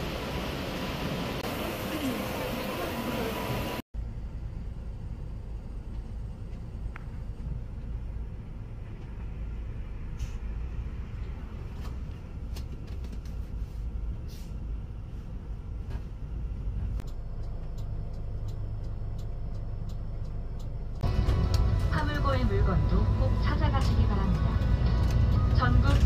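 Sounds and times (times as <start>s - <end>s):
coach interior rumble: 0.0s - 26.0s.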